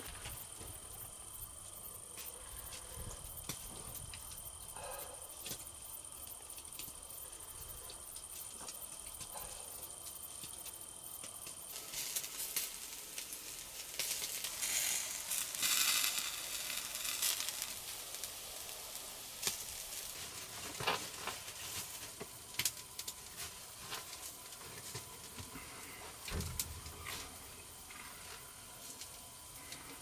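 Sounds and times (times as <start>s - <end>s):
embers hissing and sizzling: 0.0s - 30.0s
fire crackles: 0.0s - 30.0s.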